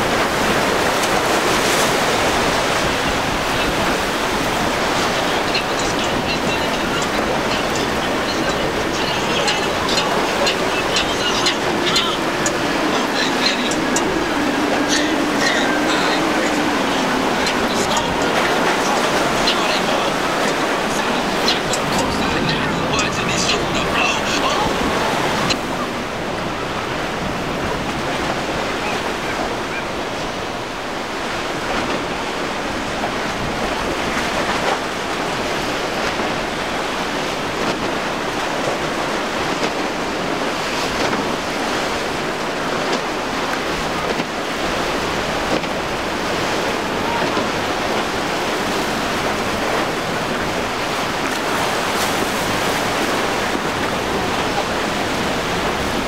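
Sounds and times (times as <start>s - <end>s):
breaking waves: 0.0s - 56.0s
wind on microphone: 0.0s - 56.0s.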